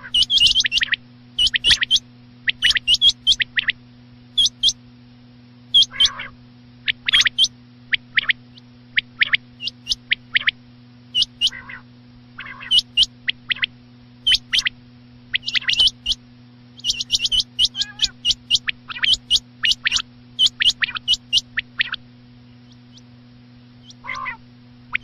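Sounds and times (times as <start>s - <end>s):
low rasping calls: 0.0s - 3.8s, 5.7s - 14.7s, 15.3s - 16.2s, 16.8s - 23.1s, 23.8s - 25.0s
quail calls: 0.0s - 3.8s, 4.4s - 4.8s, 5.7s - 16.2s, 16.8s - 22.0s, 23.8s - 25.0s
steady low hum: 0.0s - 25.0s.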